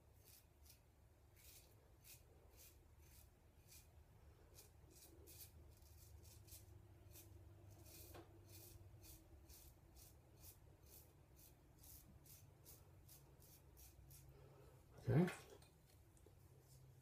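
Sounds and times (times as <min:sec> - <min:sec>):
razor scraping stubble: 0:00.2 - 0:14.3.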